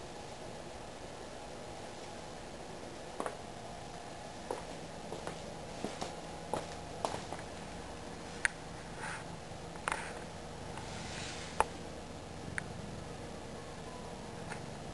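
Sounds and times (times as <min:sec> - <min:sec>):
low background hum: 0:00.0 - 0:14.9.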